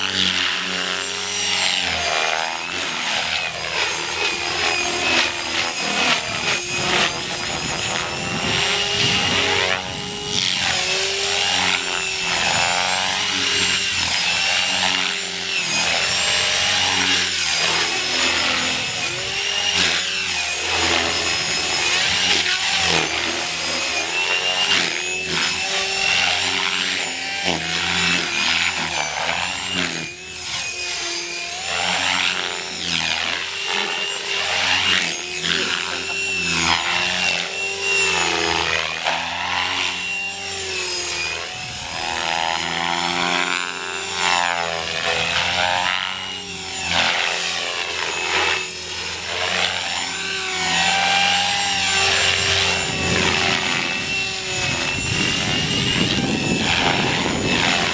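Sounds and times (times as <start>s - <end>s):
electric motor whine: 0.0s - 57.9s
helicopter rotor blade buzz: 0.0s - 57.9s.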